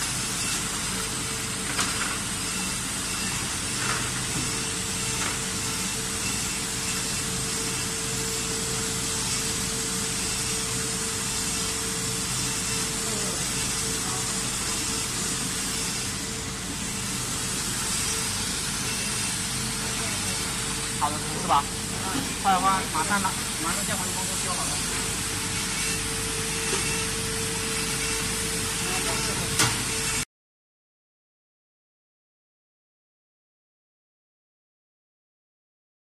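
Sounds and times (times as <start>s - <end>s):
router spindle hiss and hum: 0.0s - 30.2s.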